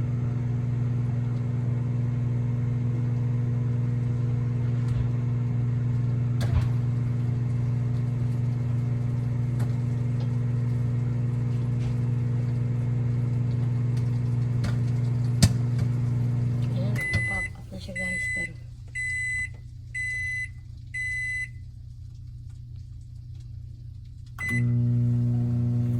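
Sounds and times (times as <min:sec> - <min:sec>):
microwave oven humming: 0:00.0 - 0:25.9.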